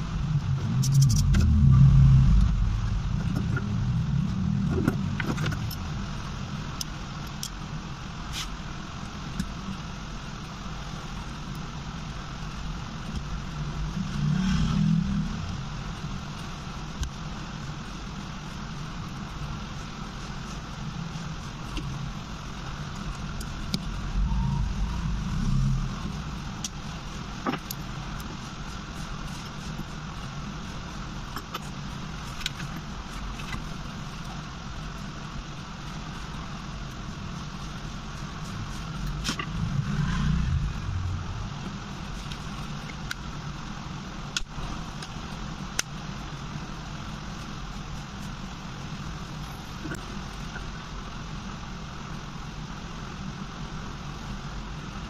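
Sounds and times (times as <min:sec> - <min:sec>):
low steady rumble: 0:00.0 - 0:55.0.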